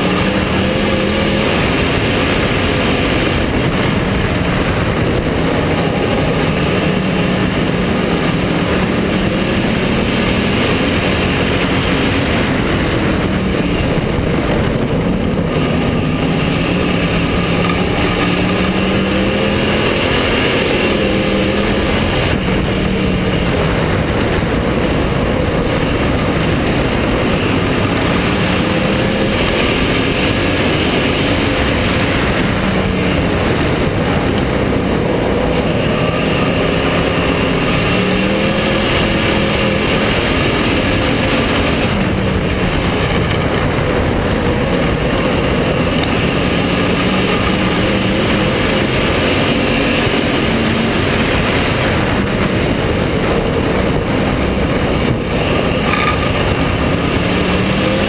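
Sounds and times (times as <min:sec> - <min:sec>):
race car engine revving: 0:00.0 - 0:58.0
wind and tyre noise: 0:00.0 - 0:58.0.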